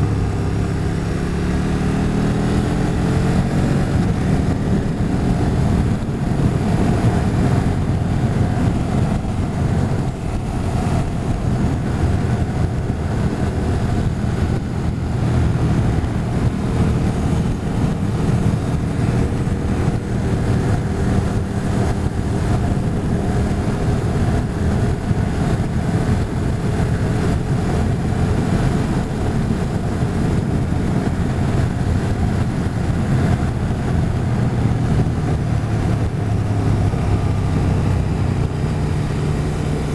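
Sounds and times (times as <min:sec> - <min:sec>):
motorcycle engine running: 0:00.0 - 0:39.9
wind rushing: 0:00.0 - 0:39.9.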